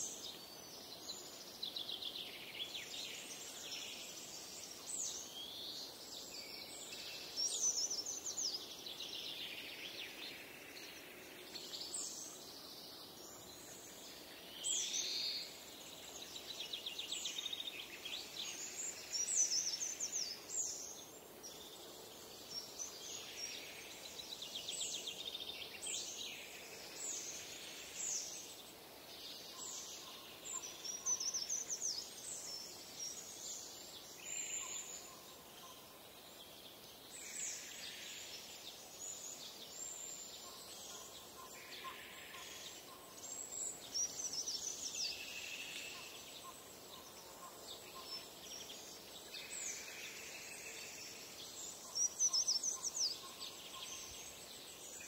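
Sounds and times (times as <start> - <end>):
faint forest ambience hiss: 0.0 - 55.0
songbirds singing and calling: 0.0 - 55.0.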